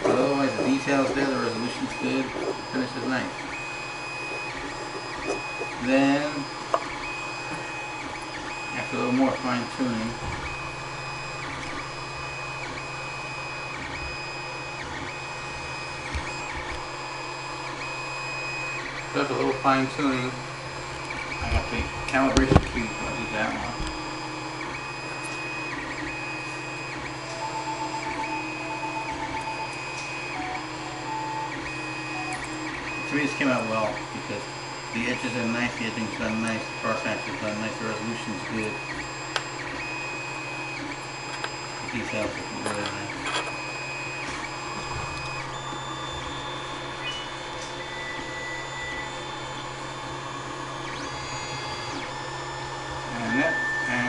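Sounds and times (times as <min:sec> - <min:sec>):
steady low hum: 0:00.0 - 0:54.0
stepper motors whining: 0:00.0 - 0:54.0.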